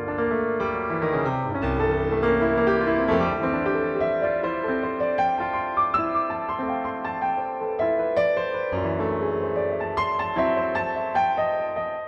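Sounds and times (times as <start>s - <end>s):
piano melody over chords: 0.0s - 12.0s.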